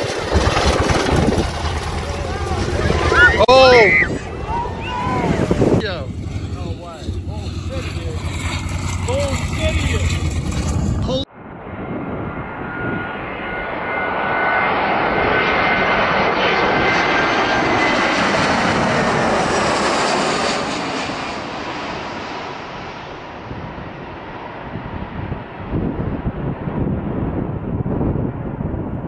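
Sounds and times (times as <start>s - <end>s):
jet airliner roar with whine: 0.0s - 29.0s.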